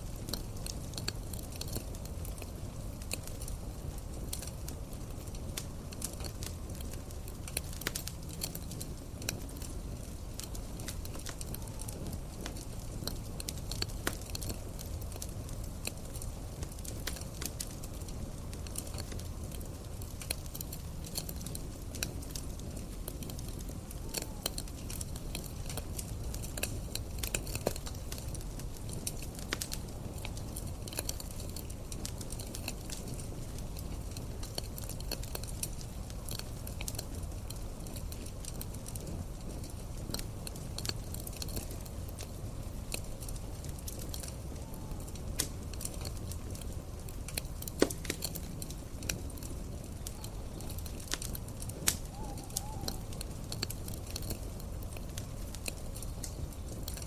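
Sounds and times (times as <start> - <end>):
burning wood popping: 0.0 - 57.0
low rumble of flame: 0.0 - 57.0.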